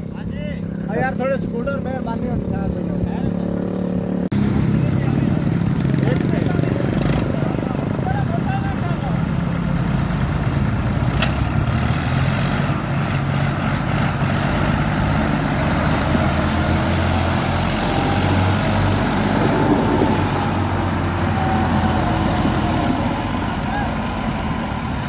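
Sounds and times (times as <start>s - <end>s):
tractor diesel engines under load: 0.0s - 25.0s.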